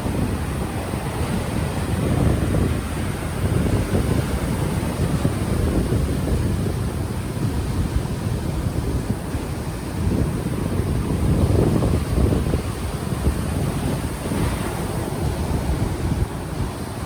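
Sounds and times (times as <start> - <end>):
ocean waves on the shore: 0.0 - 17.0
wind buffeting a microphone: 0.0 - 17.0.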